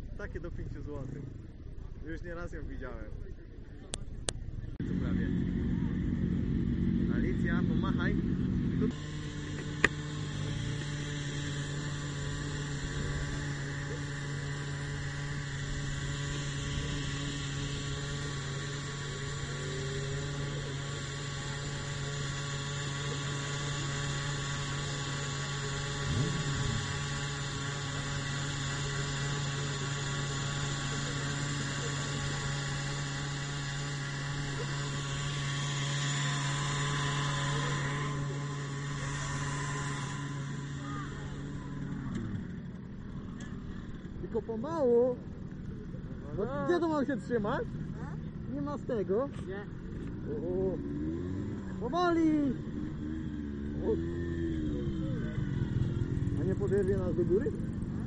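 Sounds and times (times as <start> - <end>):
motorcycle engine idling: 3.4 - 58.0.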